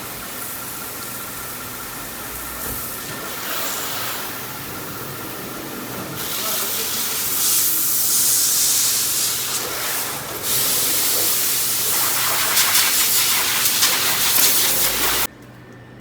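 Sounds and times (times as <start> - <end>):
compressed air blow gun hissing: 0.0 - 15.3.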